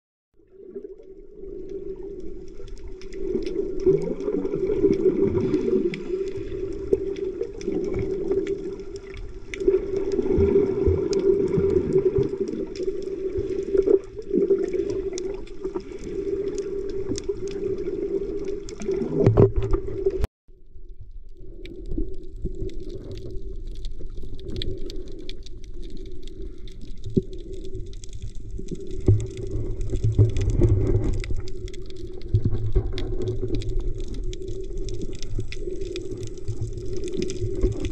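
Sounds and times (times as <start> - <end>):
underwater water noise: 0.3 - 37.9
steady low underwater hum: 0.4 - 37.9
faint clicks and crackles: 0.5 - 37.9.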